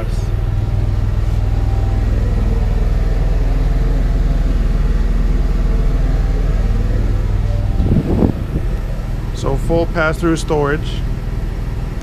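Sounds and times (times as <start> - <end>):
engine running drone: 0.0 - 12.0.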